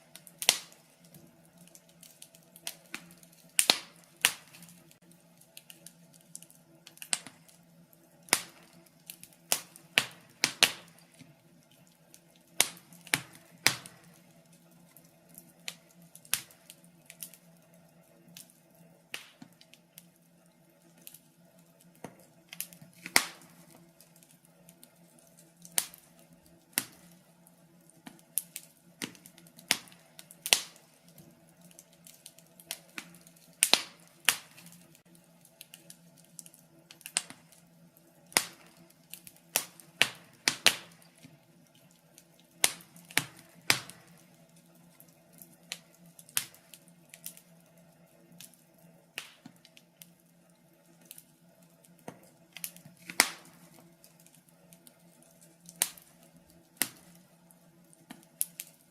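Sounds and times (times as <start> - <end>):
faint steady hum: 0.0 - 58.9
wood fire crackling: 0.0 - 58.9.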